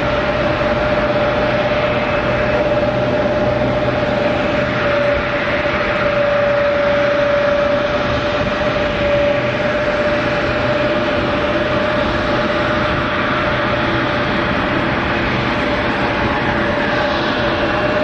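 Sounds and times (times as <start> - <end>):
jet engines running: 0.0 - 18.0
steady engine whine: 0.0 - 18.0.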